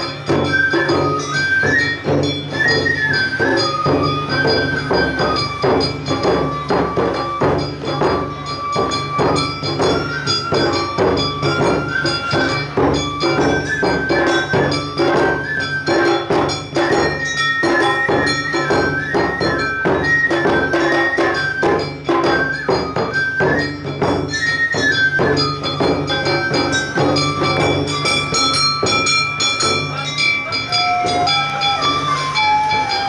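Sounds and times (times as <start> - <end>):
bamboo flute melody: 0.0 - 33.0
clanging hand gong: 0.0 - 33.0
taiko drums beating: 0.0 - 33.0.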